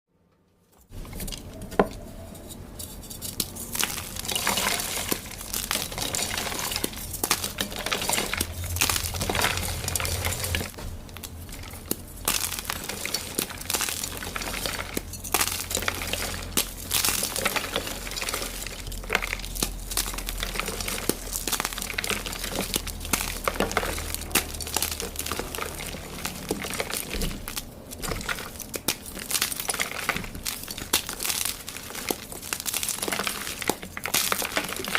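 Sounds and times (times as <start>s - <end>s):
chalk being crushed: 0.9s - 34.9s.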